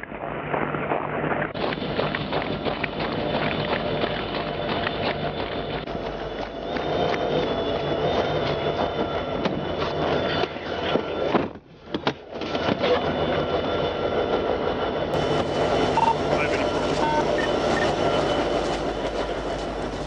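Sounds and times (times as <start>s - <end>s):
train rumbling: 1.5s - 20.0s.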